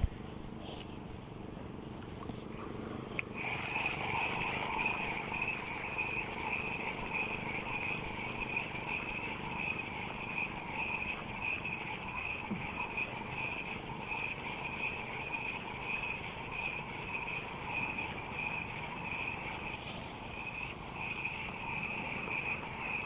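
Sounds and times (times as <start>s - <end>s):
fishing reel whirring: 1.2s - 23.0s.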